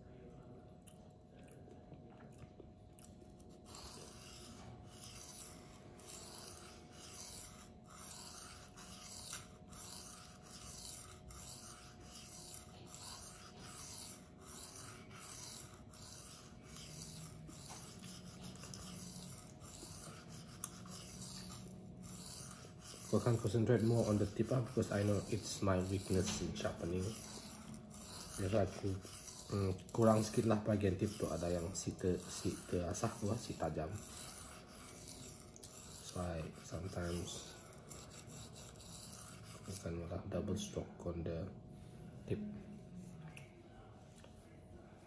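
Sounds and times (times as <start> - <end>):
knife scraping on sharpening stone: 3.7 - 39.8.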